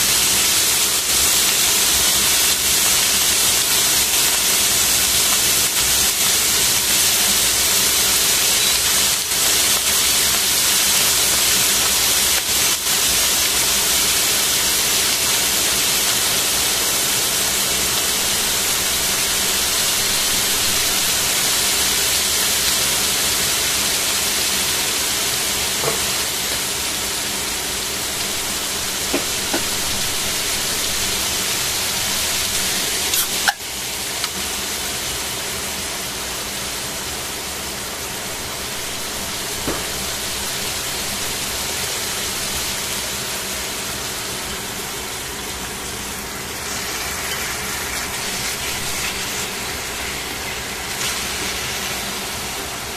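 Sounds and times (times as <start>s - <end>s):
meat sizzling in oil: 0.0s - 52.9s.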